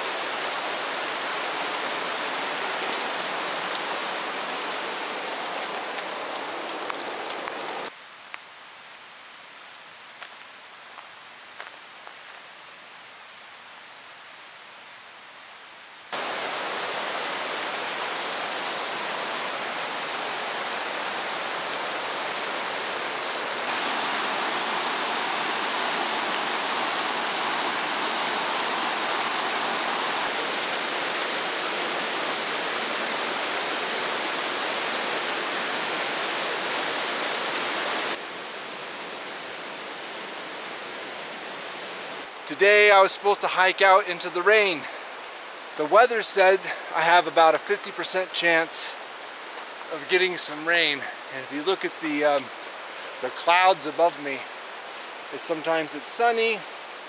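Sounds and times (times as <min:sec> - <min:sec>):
stream water rushing: 0:00.0 - 0:07.9, 0:16.1 - 0:57.0.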